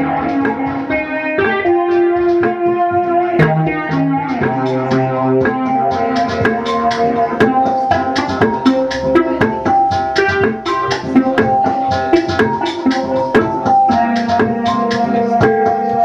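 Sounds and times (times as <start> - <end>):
gongs and hand percussion: 0.0 - 16.0
sliding held pitched notes: 0.0 - 16.0.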